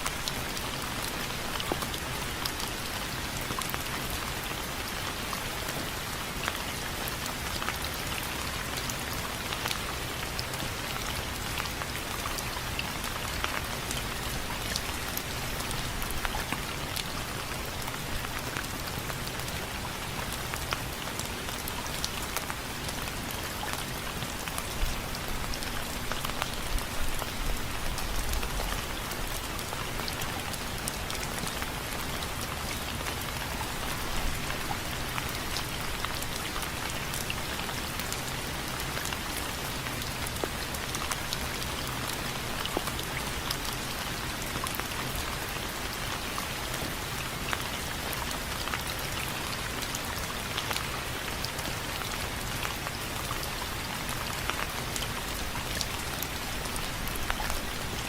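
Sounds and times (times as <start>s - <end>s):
rain on window frames: 0.0s - 58.0s.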